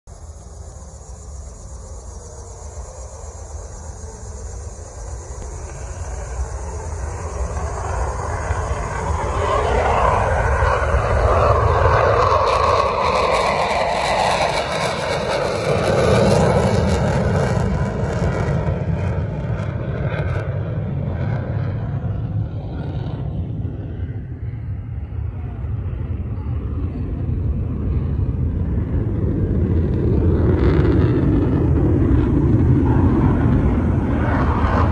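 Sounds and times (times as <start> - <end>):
fighter jet engine roaring: 0.1 - 34.9.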